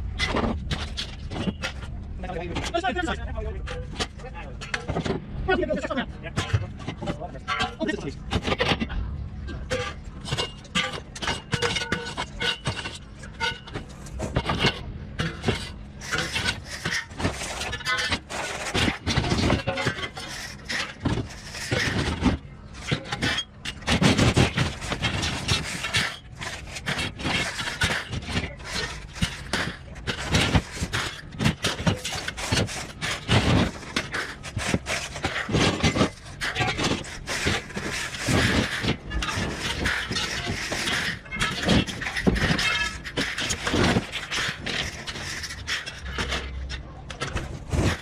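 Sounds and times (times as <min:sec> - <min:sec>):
scrap metal clanking and crashing: 0:00.2 - 0:48.0.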